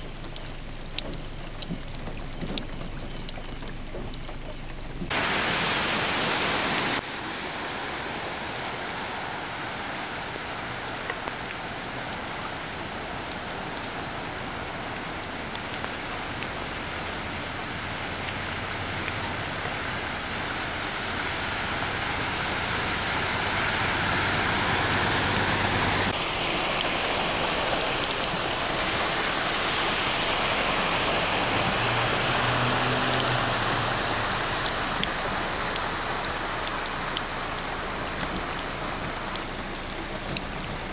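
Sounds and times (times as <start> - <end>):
rain falling: 0.0 - 40.9
truck engine humming: 0.0 - 40.9
vehicles splashing through water: 0.0 - 40.9.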